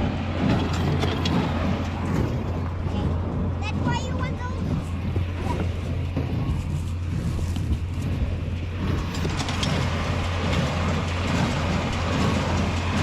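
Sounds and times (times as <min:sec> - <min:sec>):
busy mechanical noise: 0:00.0 - 0:13.0
tractor engine running: 0:00.0 - 0:13.0.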